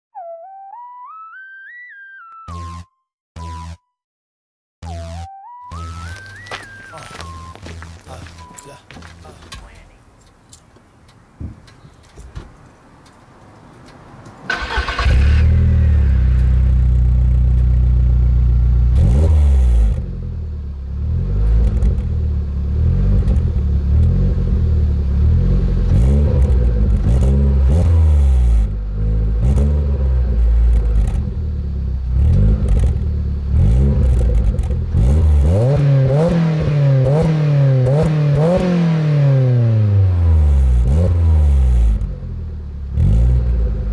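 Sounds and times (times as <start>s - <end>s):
car engine idling and revving: 5.8s - 43.9s.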